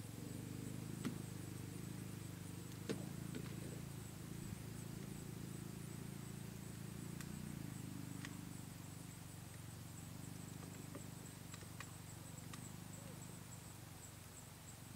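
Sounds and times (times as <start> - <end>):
steady low hum: 0.0 - 14.9
faint ticks: 0.2 - 14.5.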